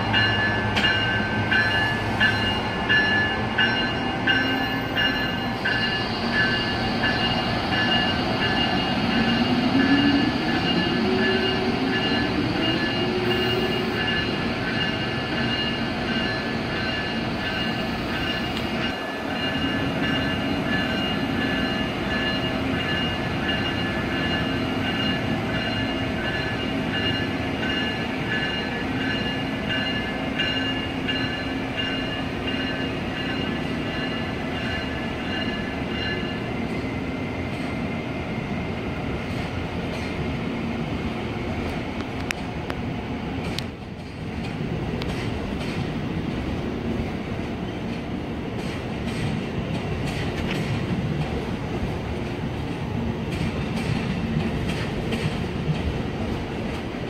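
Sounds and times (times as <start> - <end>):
train cars rolling on rails: 0.0 - 57.0.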